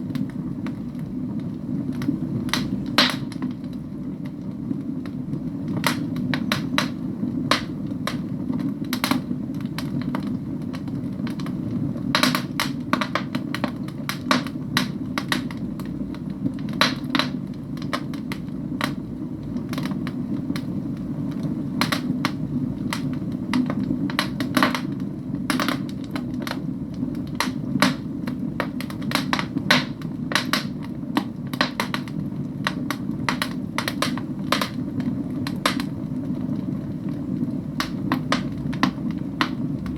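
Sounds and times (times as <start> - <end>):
fire crackling and popping: 0.0 - 39.9
low rush of flames: 0.0 - 39.9.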